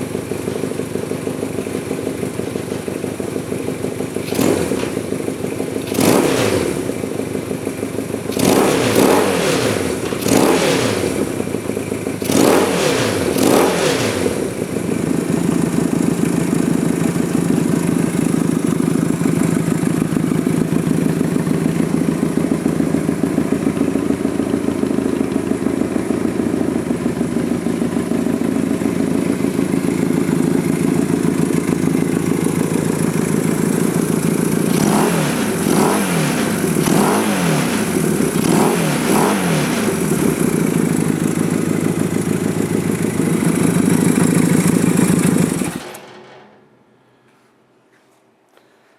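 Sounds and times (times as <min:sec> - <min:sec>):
motorcycle engine revving and idling: 0:00.0 - 0:46.2.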